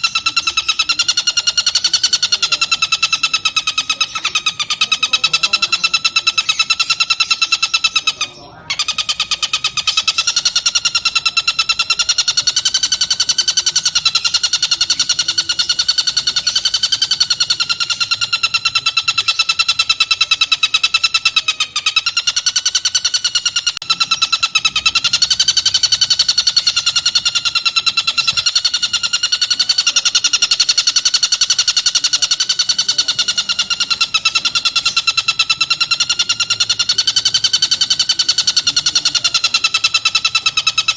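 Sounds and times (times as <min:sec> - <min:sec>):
kingfisher buzzy trill: 0:00.0 - 0:40.9.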